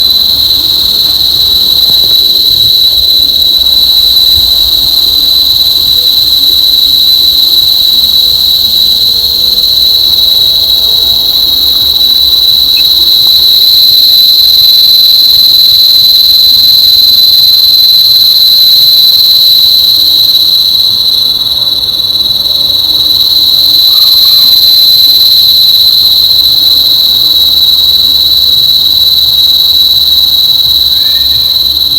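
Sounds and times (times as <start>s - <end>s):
insects droning high-pitched: 0.0s - 31.9s.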